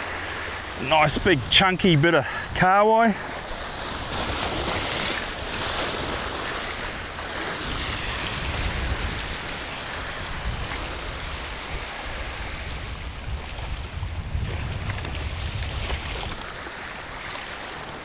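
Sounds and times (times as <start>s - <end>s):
waves breaking over rocks: 0.0s - 18.0s
wind rumbling on microphone: 3.4s - 18.0s.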